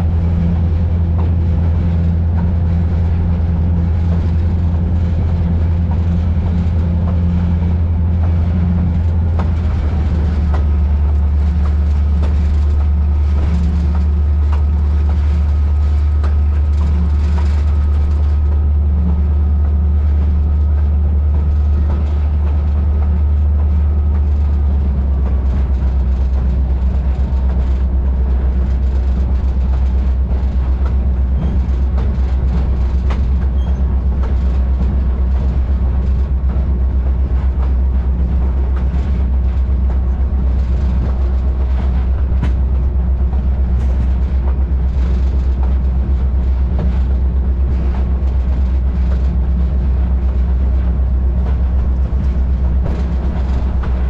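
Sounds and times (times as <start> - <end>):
train rumbling along track: 0.0 - 54.0.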